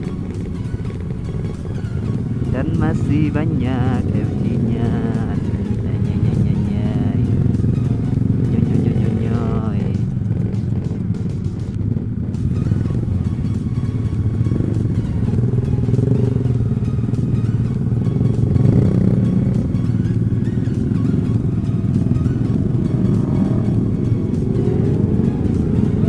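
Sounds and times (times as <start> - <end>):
motorcycle engines droning: 0.0 - 26.0.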